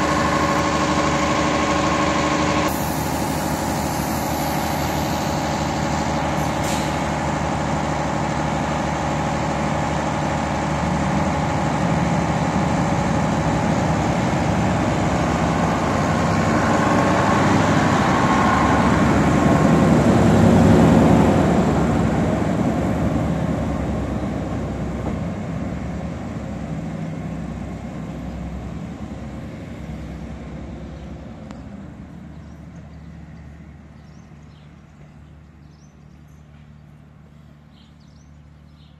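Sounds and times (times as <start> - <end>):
diesel railcar engine under load: 0.0 - 38.9.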